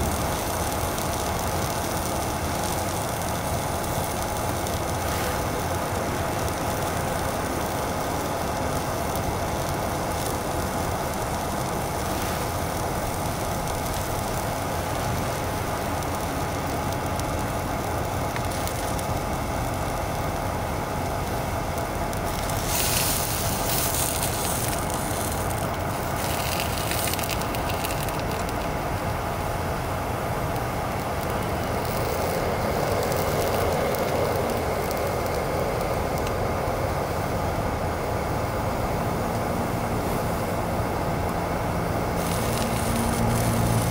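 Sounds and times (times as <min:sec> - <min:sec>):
food sizzling in frying pan: 0:00.0 - 0:38.4, 0:39.2 - 0:43.9
gas stove hissing: 0:00.0 - 0:43.9.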